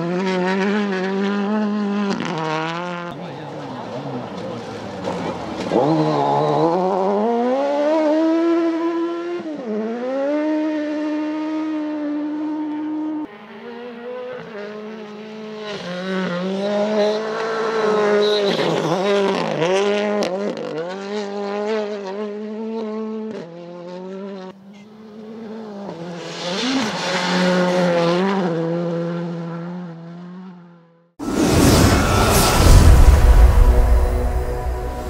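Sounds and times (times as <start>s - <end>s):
rally car engines at full throttle: 0.0s - 32.5s.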